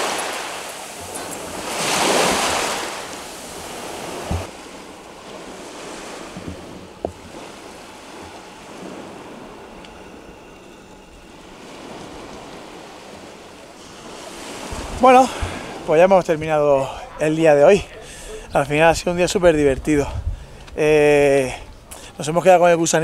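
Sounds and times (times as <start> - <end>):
wind on microphone: 0.0 - 21.9
sea waves washing on shore: 0.0 - 23.0.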